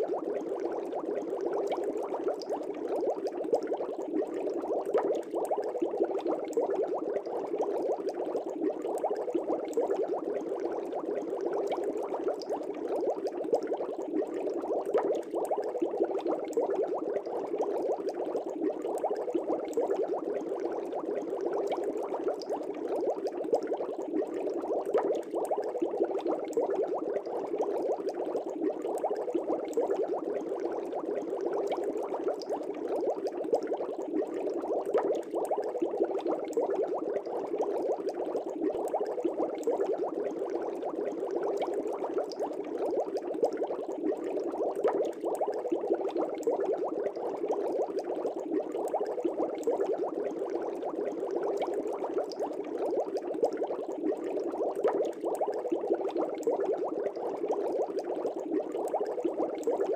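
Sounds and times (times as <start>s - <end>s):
aquarium air bubbling: 0.0s - 59.9s.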